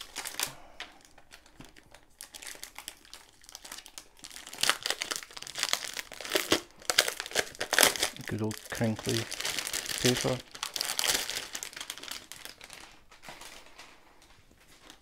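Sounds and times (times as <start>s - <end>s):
plastic wrapping crackling: 0.0s - 15.0s.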